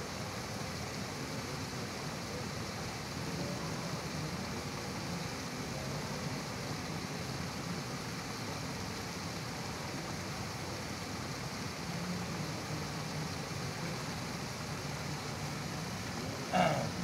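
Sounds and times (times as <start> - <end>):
even hiss: 0.0 - 17.0.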